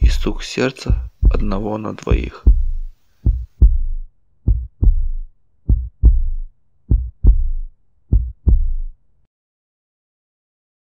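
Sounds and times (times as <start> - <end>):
heartbeat thumps: 0.0 - 9.0.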